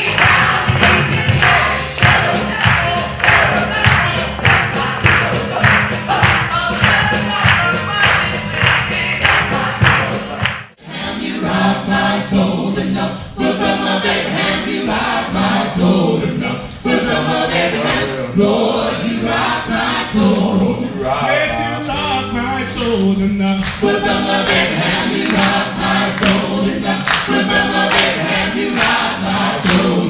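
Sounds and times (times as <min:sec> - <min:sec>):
choir singing a cappella: 0:00.0 - 0:30.0.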